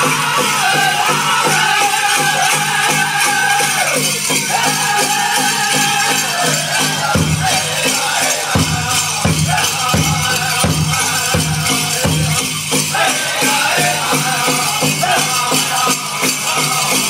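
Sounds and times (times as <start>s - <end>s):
big drum beat: 0.0s - 17.0s
group singing together: 0.0s - 17.0s
jingling bells: 0.0s - 17.0s.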